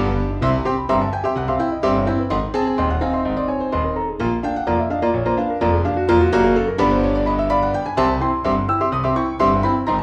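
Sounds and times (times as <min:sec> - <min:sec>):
keyboard melody: 0:00.0 - 0:10.0
steady bass line: 0:00.0 - 0:10.0.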